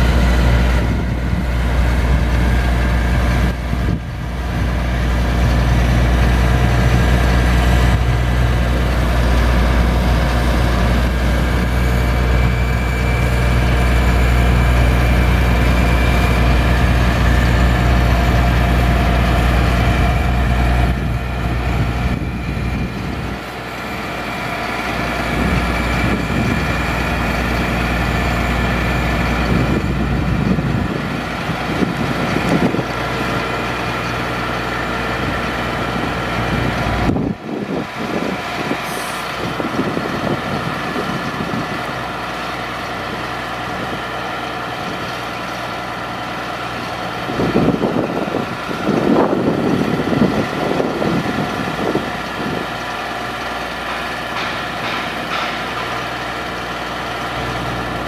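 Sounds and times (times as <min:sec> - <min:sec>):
diesel truck engine humming: 0:00.0 - 0:58.0.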